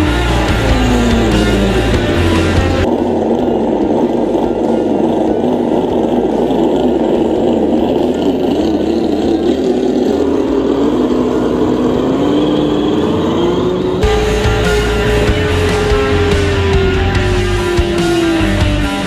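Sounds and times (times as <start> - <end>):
simulated engine rumble: 0.0 - 19.0.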